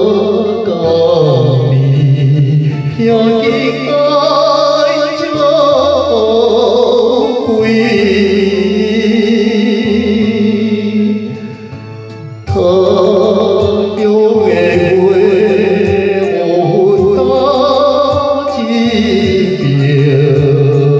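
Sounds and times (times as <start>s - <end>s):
ballad with vibrato melody: 0.0s - 20.9s
bass notes: 0.0s - 20.9s
keyboard backing: 0.0s - 20.9s.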